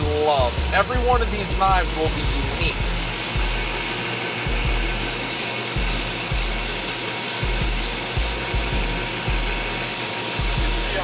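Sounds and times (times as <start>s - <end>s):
belt grinder sanding wood: 0.0s - 11.0s.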